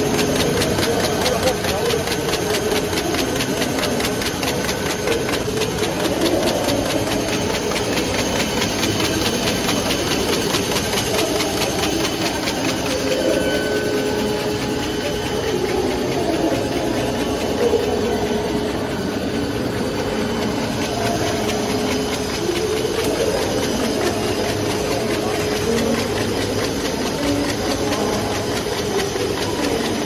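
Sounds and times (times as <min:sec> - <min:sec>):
fast regular clicking: 0:00.0 - 0:30.0
machine hum: 0:00.0 - 0:30.0.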